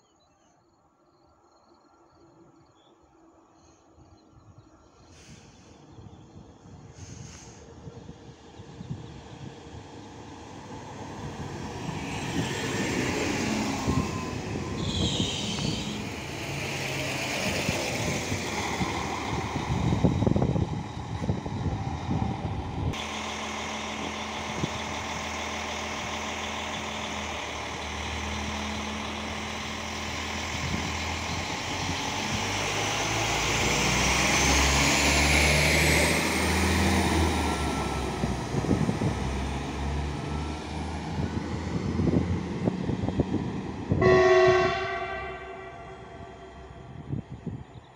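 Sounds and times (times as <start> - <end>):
diesel engine drone: 5.0 - 47.9
wind buffeting microphone: 5.7 - 23.0, 23.9 - 34.8, 35.7 - 47.9.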